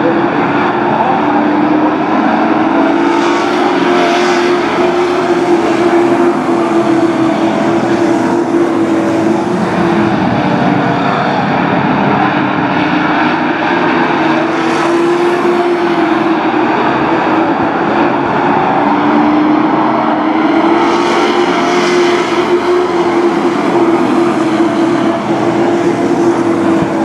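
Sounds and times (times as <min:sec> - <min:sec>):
race truck engines at high revs: 0:00.0 - 0:27.0.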